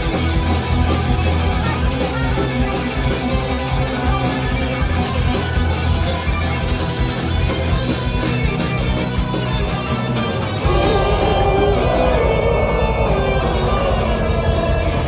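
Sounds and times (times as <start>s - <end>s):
heavy metal band playing live: 0.0s - 15.0s.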